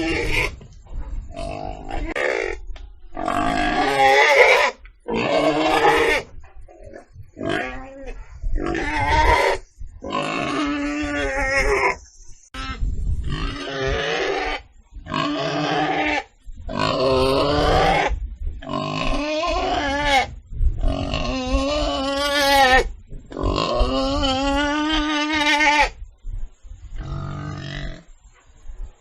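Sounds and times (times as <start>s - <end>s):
pig calling: 0.0s - 0.6s, 1.3s - 26.0s.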